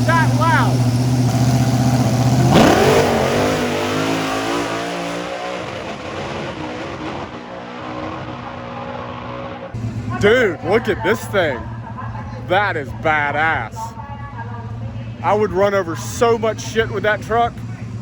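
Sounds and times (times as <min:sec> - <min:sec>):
drag racing engine revving: 0:00.0 - 0:18.0.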